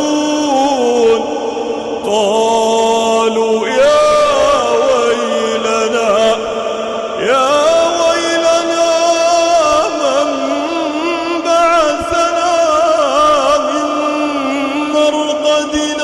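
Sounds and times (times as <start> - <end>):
man reciting in melodic chant: 0.0 - 16.0.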